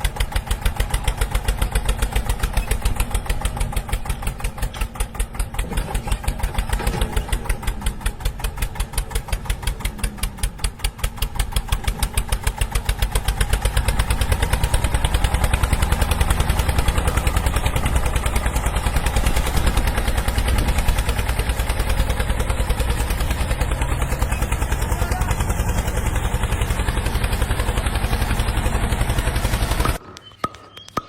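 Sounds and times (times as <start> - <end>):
small tractor engine running: 0.0 - 31.0.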